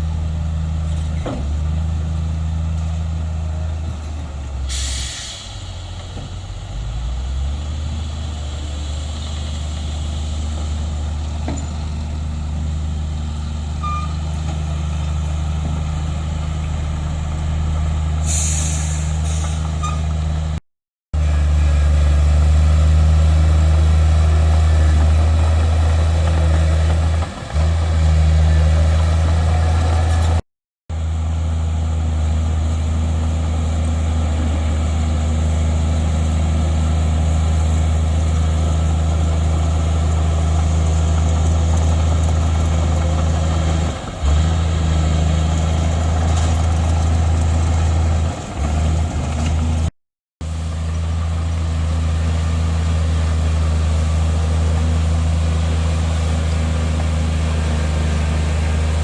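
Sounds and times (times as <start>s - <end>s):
heavy diesel engine droning: 0.0s - 20.6s, 21.2s - 59.0s.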